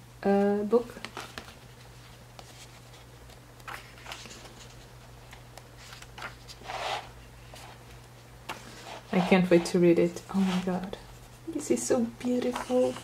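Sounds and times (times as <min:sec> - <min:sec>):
book pages turning: 0:01.0 - 0:11.3, 0:12.2 - 0:13.0.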